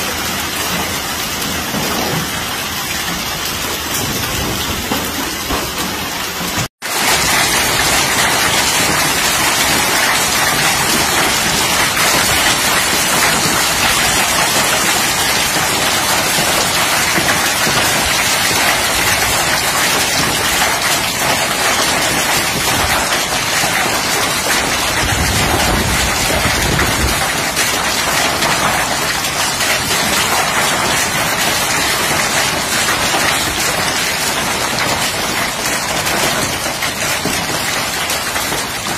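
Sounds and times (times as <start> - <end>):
hail and heavy rain pelting: 0.0 - 38.9.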